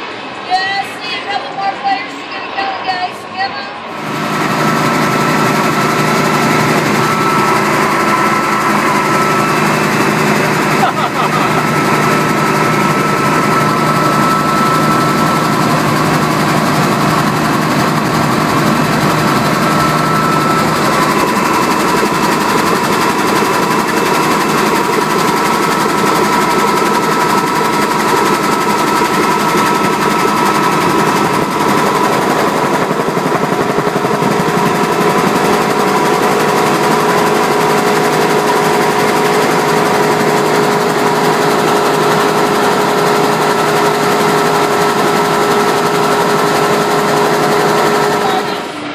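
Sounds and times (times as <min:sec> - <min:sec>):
helicopter engine and rotor chop: 0:00.0 - 0:48.9
steady whining tones: 0:00.0 - 0:48.9.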